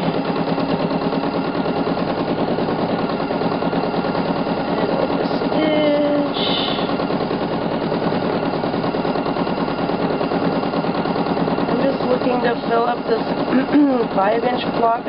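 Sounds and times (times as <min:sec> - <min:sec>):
sewing machine running fast: 0:00.0 - 0:15.0.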